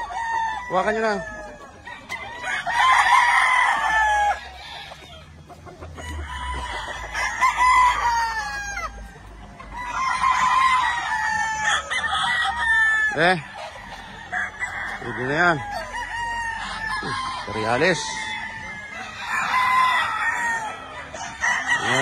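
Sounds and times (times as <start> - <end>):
roosters crowing: 0.0 - 22.0.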